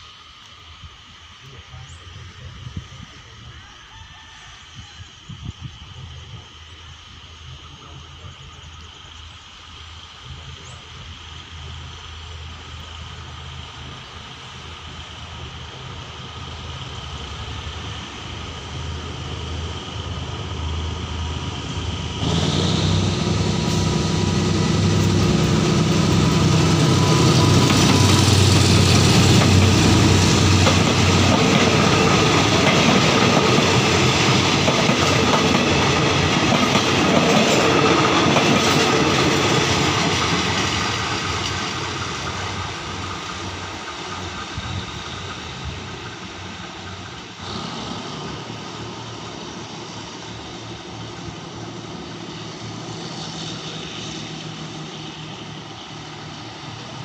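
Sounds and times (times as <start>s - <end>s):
diesel locomotive engine: 0.0s - 57.0s
passenger coaches rolling on rails: 4.2s - 57.0s.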